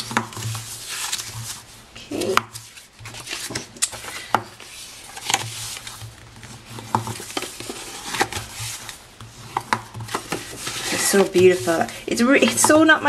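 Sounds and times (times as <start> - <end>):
cardstock folding and creasing: 0.0 - 13.0
paper rustling and rubbing: 0.0 - 13.0.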